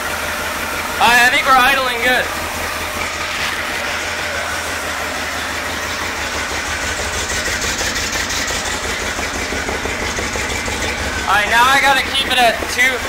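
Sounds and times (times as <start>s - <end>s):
eight-cylinder engine idling: 0.0s - 13.0s.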